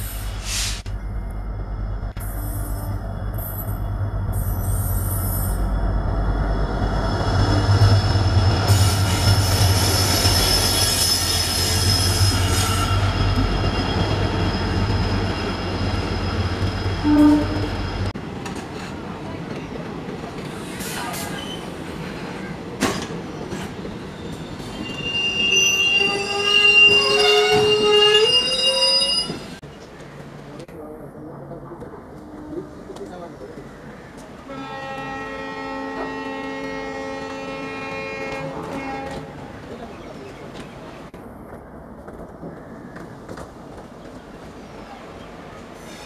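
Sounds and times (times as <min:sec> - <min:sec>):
diesel locomotive engine drone: 0:00.0 - 0:46.0.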